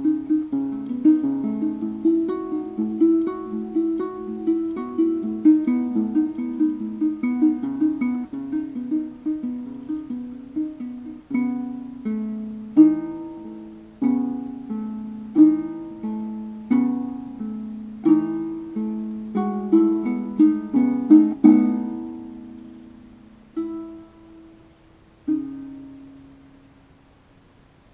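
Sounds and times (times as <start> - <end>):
plucked harp-lute melody: 0.0 - 27.9.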